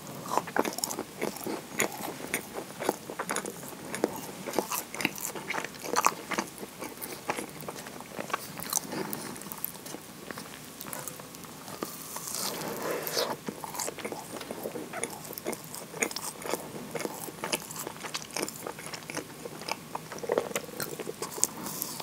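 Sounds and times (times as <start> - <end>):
biting and chewing scone: 0.2 - 22.0.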